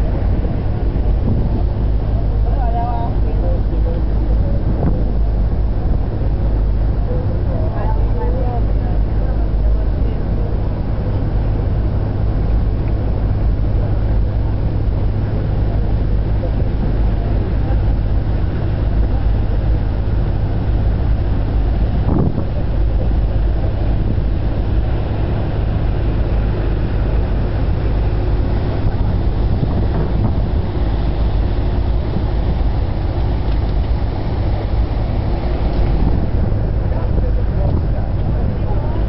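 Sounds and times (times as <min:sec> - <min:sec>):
ferry engines droning: 0:00.0 - 0:39.0
wind buffeting microphone: 0:00.0 - 0:39.0.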